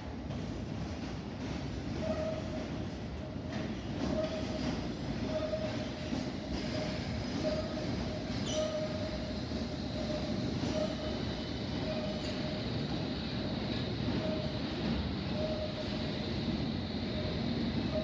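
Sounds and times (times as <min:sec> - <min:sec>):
train wheels rumbling on rail: 0:00.0 - 0:18.0
train wheels squealing: 0:01.9 - 0:02.8, 0:03.5 - 0:18.0.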